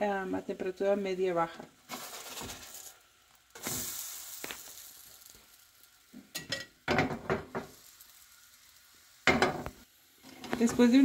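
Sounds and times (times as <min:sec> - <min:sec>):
pancake sizzling in oil: 0:00.0 - 0:11.0.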